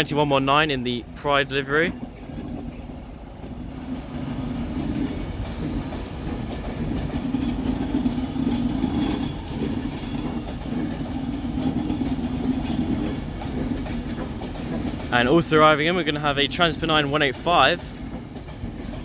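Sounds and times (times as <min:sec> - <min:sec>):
electric train humming and rumbling: 0:00.0 - 0:19.0
train wheels clicking: 0:00.0 - 0:19.0.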